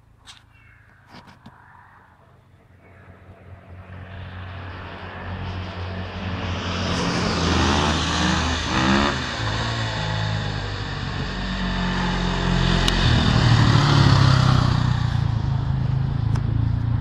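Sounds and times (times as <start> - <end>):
dirt bike engine: 2.4 - 17.0.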